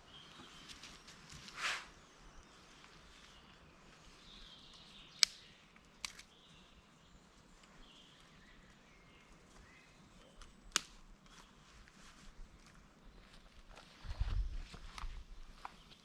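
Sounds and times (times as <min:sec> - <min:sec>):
birds chirping quietly: 0:00.0 - 0:16.0.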